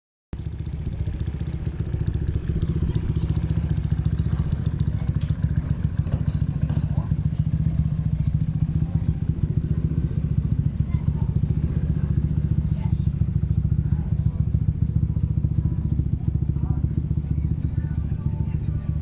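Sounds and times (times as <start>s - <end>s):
race car engine idling: 0.4s - 19.0s.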